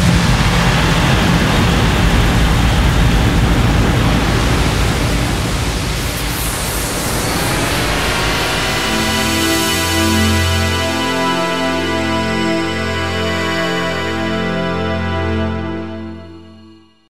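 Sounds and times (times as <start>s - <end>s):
loud steady rushing noise: 0.0s - 15.8s
low rumble: 0.0s - 16.1s.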